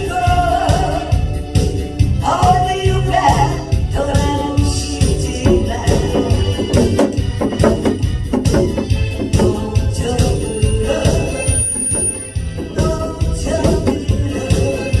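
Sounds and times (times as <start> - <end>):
steady drum beat: 0.1 - 15.0.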